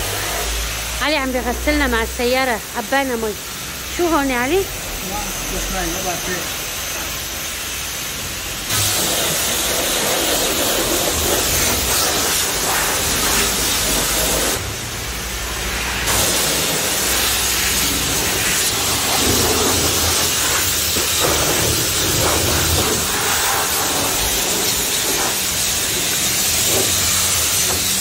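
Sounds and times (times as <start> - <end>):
high-pressure water spray: 0.0 - 28.0.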